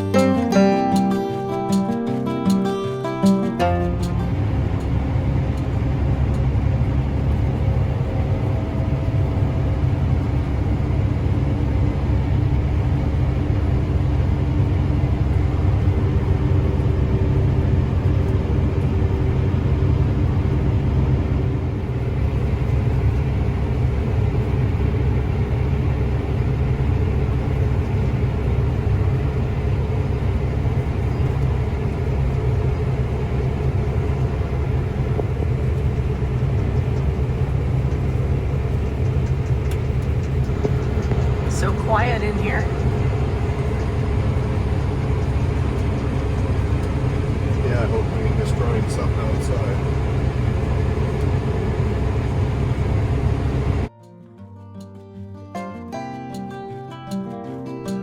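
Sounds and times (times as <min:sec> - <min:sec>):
combine harvester rumbling: 0:00.0 - 0:53.9
faint steady hum: 0:03.6 - 0:53.9.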